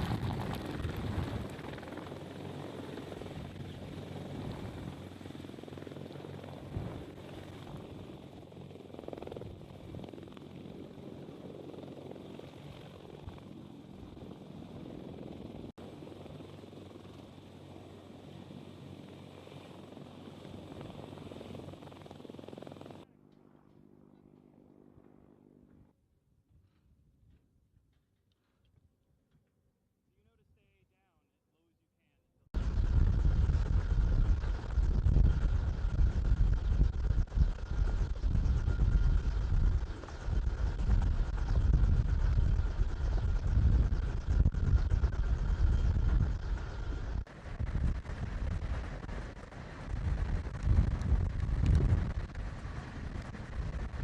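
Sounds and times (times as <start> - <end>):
helicopter rotor chop: 0.0 - 23.1, 32.6 - 54.0.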